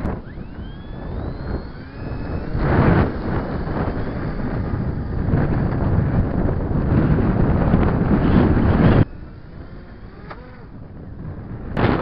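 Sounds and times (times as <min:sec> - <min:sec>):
high whine of electric motors: 0:00.0 - 0:12.0
wind buffeting microphone: 0:00.0 - 0:12.0.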